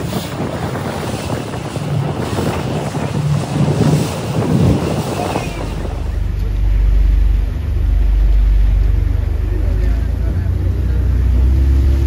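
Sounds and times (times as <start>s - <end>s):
boat engine running: 0.0s - 12.0s
water rushing along hull: 0.0s - 12.0s
wind buffeting microphone: 0.0s - 12.0s.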